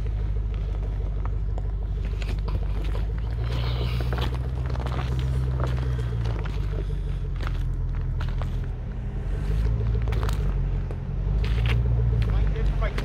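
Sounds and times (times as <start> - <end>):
car engine at low revs: 0.0 - 13.0
footsteps on gravel: 0.0 - 13.0
tyres crunching gravel: 0.0 - 13.0.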